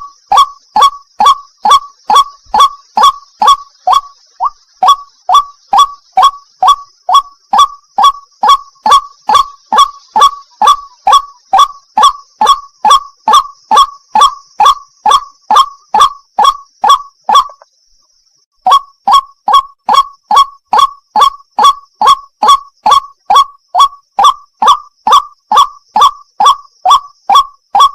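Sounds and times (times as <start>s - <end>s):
waterhen calling: 0.0s - 17.7s, 18.7s - 27.9s.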